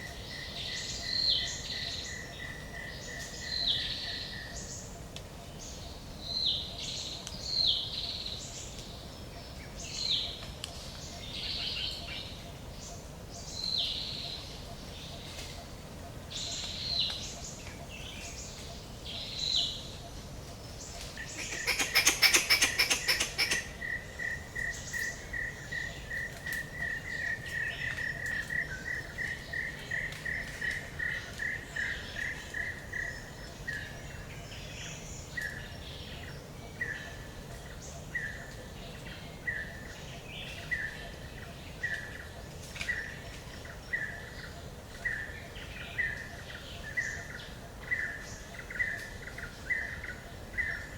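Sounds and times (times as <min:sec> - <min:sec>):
birds chirping: 0:00.1 - 0:50.9.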